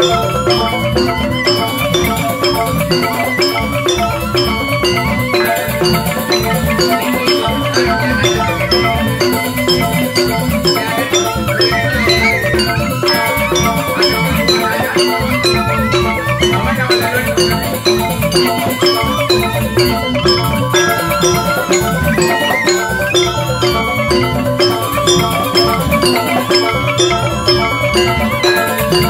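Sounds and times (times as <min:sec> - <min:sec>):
bamboo xylophones struck: 0:00.0 - 0:29.0
hand drum: 0:00.0 - 0:29.0.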